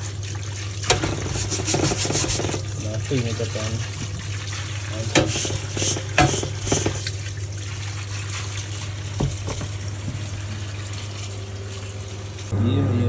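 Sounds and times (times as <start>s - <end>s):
water running and splashing: 0.0s - 12.6s.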